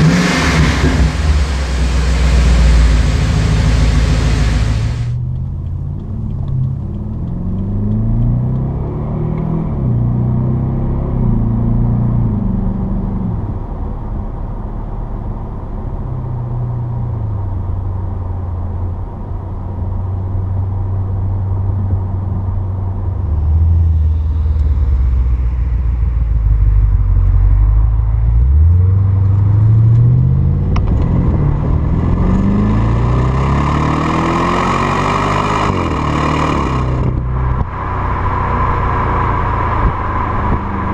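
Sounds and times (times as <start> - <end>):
car exhaust while driving: 0.0 - 40.9.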